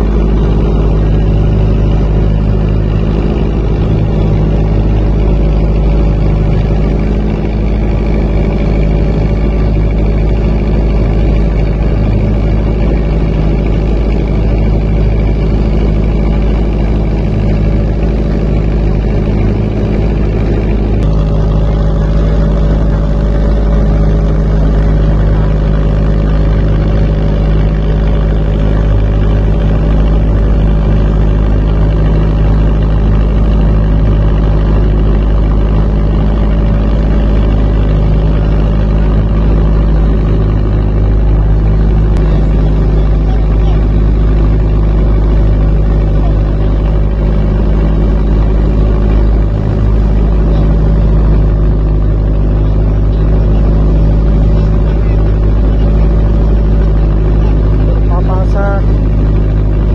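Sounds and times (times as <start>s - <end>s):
boat engine droning: 0.0s - 59.9s
water rushing along hull: 0.0s - 59.9s.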